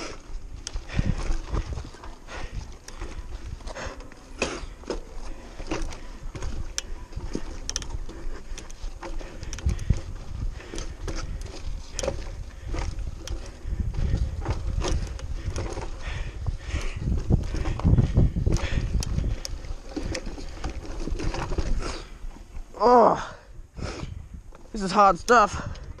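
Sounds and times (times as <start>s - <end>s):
wind rumble on microphone: 0.0s - 4.0s, 5.2s - 26.0s
bike clattering over rocks: 0.2s - 22.2s.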